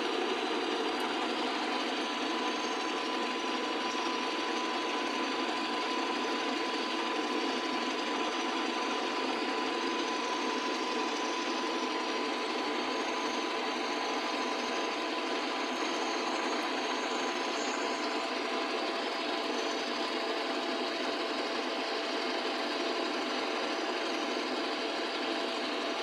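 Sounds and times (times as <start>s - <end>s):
small engine running steadily: 0.0s - 26.0s.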